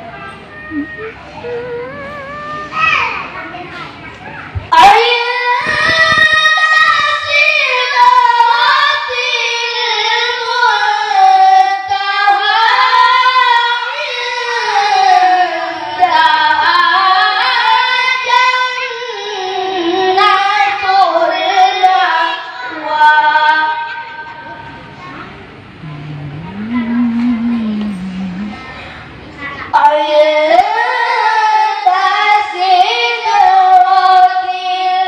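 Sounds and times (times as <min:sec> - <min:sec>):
boy reciting melodically: 0:00.0 - 0:35.0.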